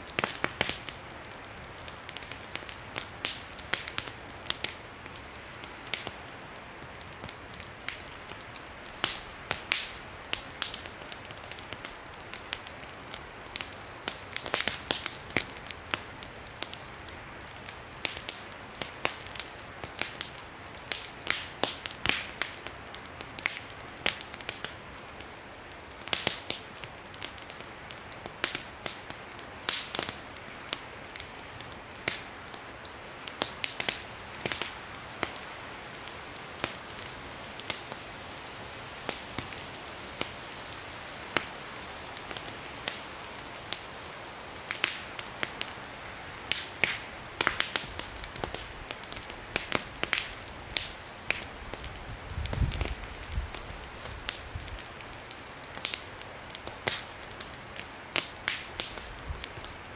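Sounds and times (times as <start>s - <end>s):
campfire crackling and popping: 0.0s - 59.9s
steady background hiss: 0.0s - 59.9s.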